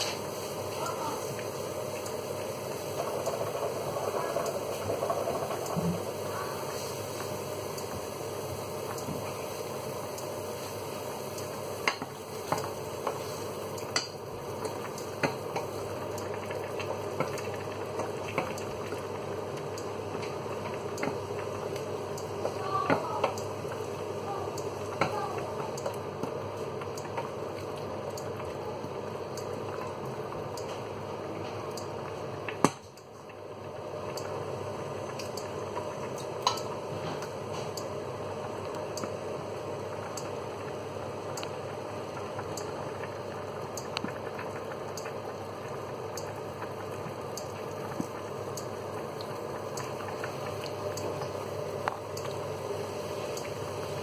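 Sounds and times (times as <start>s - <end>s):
tomatoes sizzling in oil: 0.0s - 54.0s.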